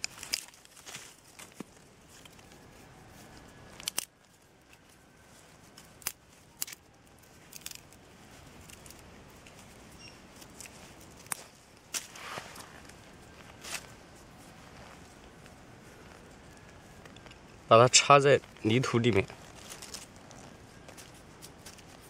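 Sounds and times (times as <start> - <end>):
dry twigs snapping: 0.0 - 17.7, 18.4 - 22.0
faint handling noise: 0.0 - 22.0.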